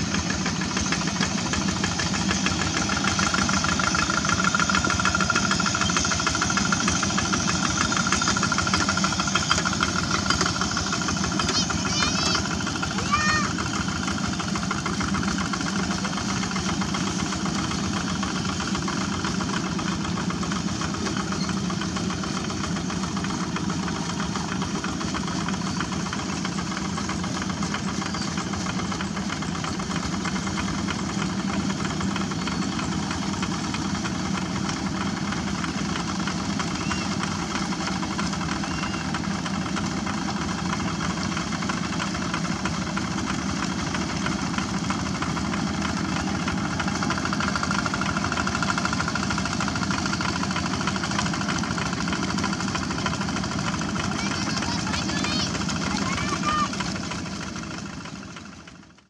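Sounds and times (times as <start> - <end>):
diesel tractor engines under load: 0.0 - 59.0.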